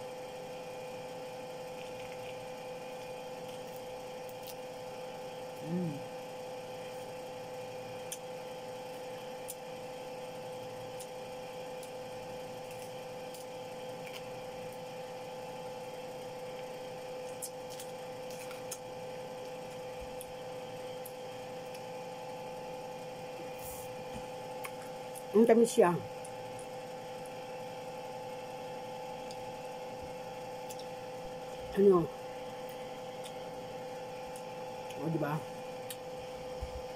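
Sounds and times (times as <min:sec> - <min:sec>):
two-tone mechanical hum: 0:00.0 - 0:36.9.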